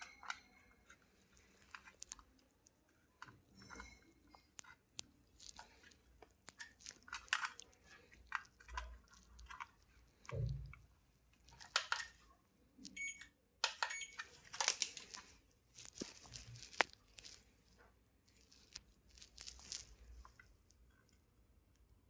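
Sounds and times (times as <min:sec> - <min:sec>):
plastic parts clicking and scraping: 0:00.0 - 0:21.3.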